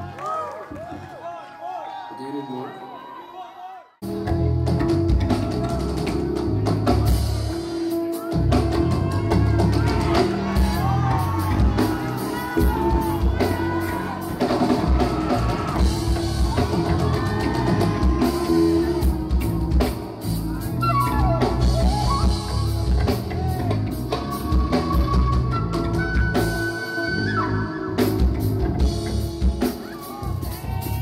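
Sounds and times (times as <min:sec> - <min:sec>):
drum kit beat: 0:04.0 - 0:27.0, 0:27.9 - 0:31.0
guitar: 0:04.0 - 0:31.0.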